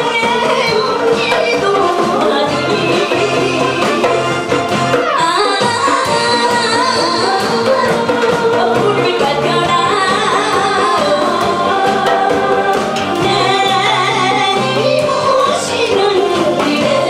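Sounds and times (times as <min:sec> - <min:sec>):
backing music with bass line: 0:00.0 - 0:17.0
woman singing into microphone: 0:00.0 - 0:17.0.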